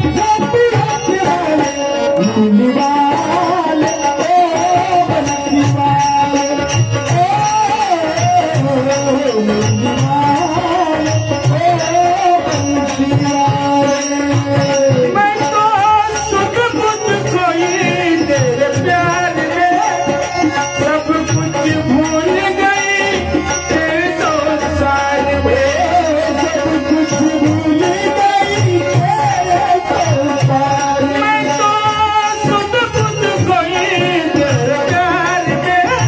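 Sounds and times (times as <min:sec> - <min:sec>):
devotional song melody: 0:00.0 - 0:36.0
tabla beat: 0:00.0 - 0:36.0.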